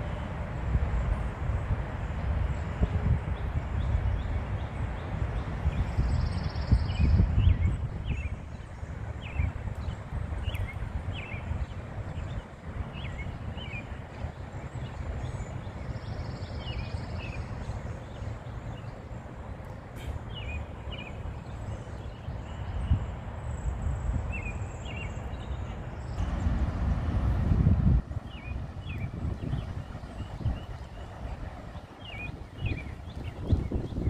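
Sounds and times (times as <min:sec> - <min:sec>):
wind rumbling on microphone: 0:00.0 - 0:34.0
small birds chirping: 0:03.4 - 0:26.9, 0:28.1 - 0:34.0.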